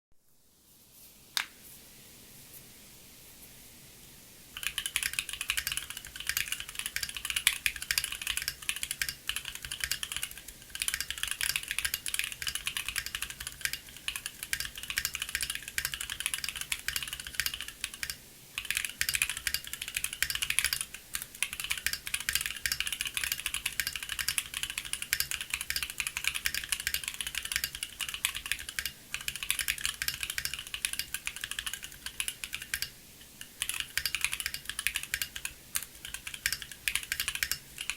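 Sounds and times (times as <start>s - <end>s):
fast typing on mechanical keyboard: 4.6s - 37.9s.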